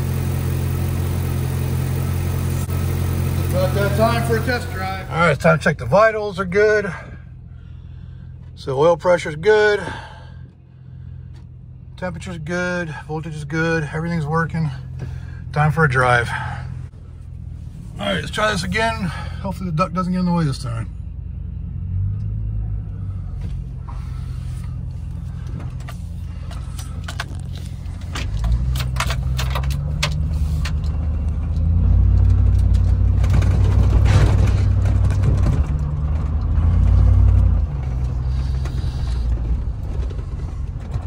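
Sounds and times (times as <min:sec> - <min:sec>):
truck engine accelerating: 0:00.0 - 0:41.0.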